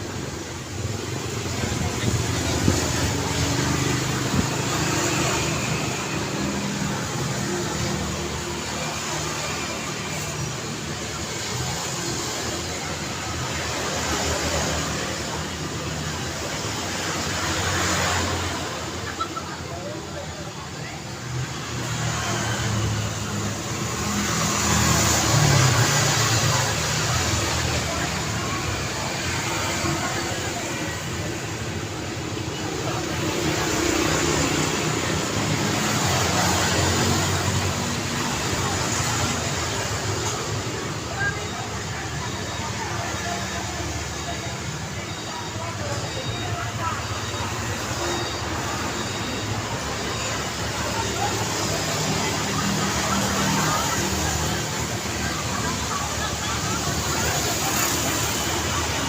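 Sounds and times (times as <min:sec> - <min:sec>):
car and motorbike engines passing: 0:00.0 - 0:59.0
road traffic: 0:00.0 - 0:59.0.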